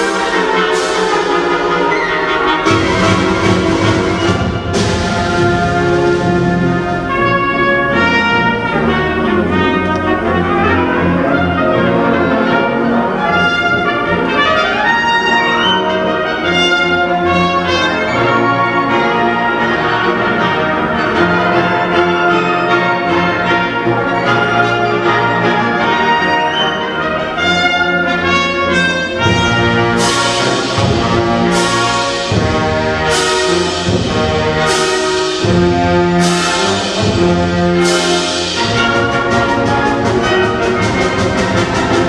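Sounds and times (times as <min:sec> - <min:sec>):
solo trumpet: 0:00.0 - 0:42.0
wind band playing: 0:00.0 - 0:42.0.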